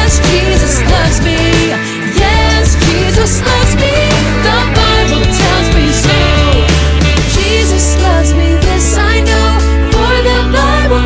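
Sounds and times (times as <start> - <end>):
upbeat pop worship music: 0.0 - 11.0.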